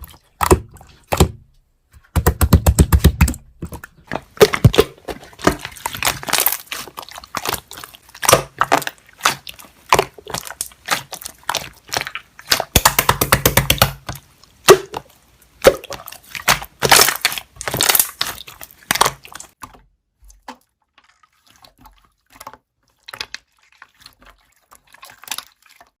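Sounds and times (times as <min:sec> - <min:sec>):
slime squelching and popping: 0:00.0 - 0:26.0.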